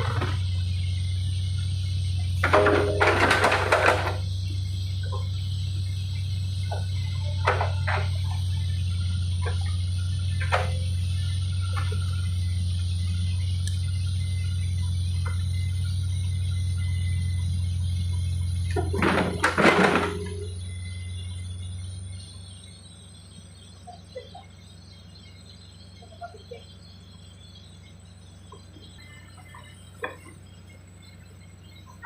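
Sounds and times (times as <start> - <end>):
excavator engine whining: 0.0 - 32.0
faint chirps: 0.0 - 32.0.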